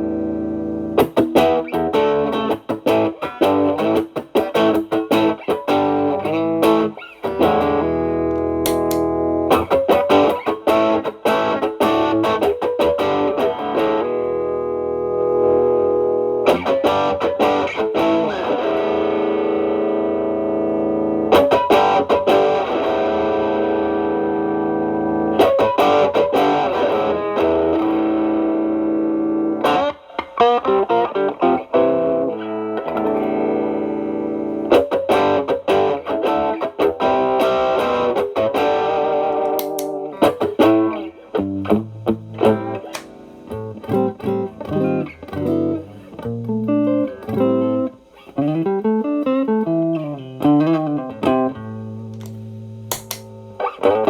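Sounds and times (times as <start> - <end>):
distorted lead guitar: 0.0 - 54.0.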